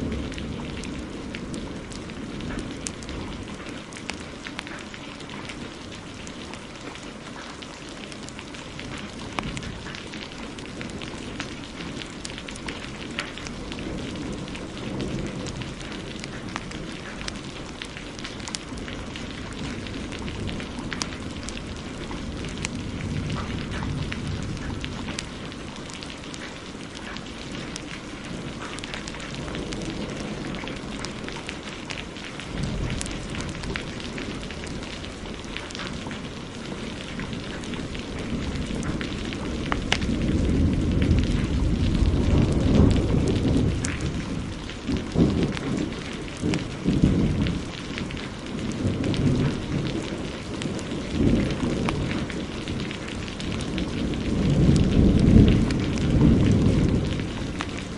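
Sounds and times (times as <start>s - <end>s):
low thunder rumbles: 0.0s - 57.9s
wood fire crackling and popping: 0.0s - 57.9s
heavy rain hissing: 7.9s - 57.9s.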